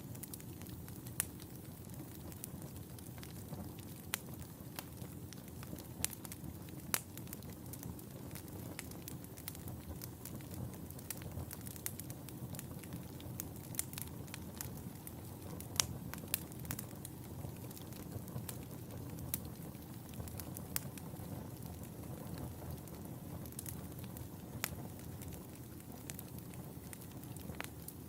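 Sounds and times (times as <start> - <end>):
fire crackling and popping: 0.0 - 28.0
low rumble of flames: 0.0 - 28.0.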